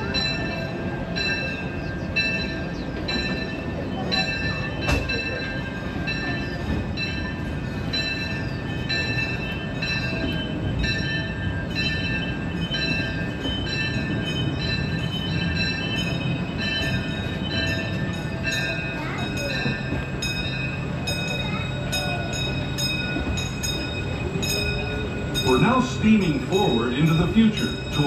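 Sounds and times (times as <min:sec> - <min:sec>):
steam train rumbling rhythmically: 0:00.0 - 0:28.0.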